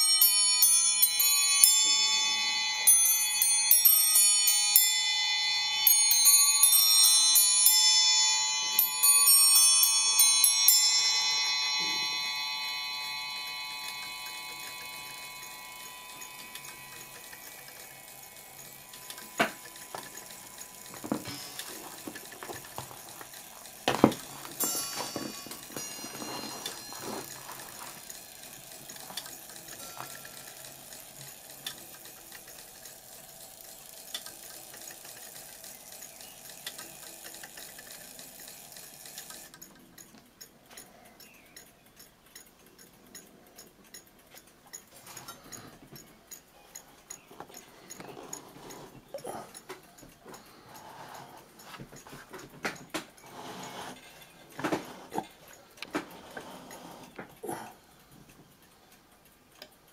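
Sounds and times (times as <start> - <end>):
clock bell ringing: 0.0 - 39.8, 42.7 - 58.0
clock ticking: 0.0 - 59.9.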